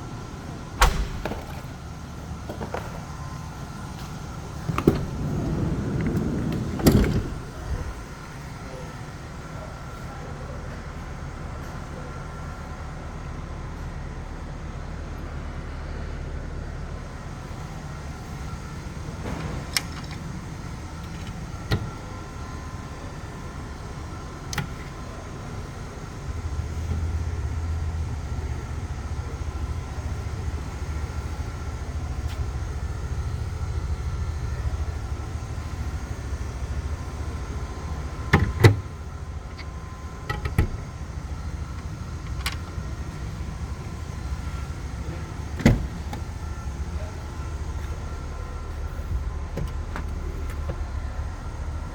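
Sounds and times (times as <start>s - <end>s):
faint whining tones: 0.0s - 51.9s
low mechanical hum: 0.0s - 51.9s.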